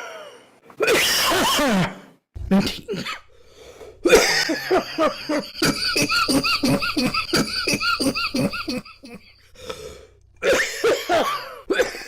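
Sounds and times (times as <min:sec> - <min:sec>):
person coughing: 0:00.8 - 0:03.3, 0:04.0 - 0:09.7, 0:10.4 - 0:12.0.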